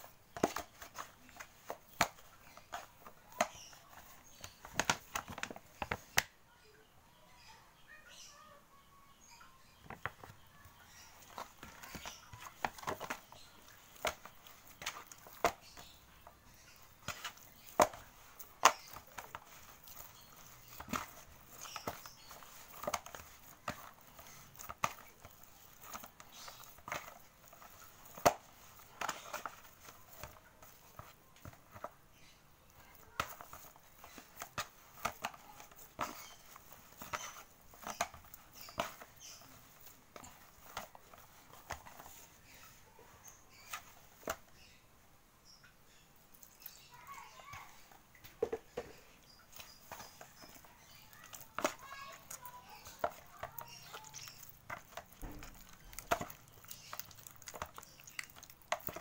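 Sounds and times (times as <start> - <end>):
dough slapping and squishing: 0.0 - 6.3, 9.9 - 44.7, 49.4 - 59.0.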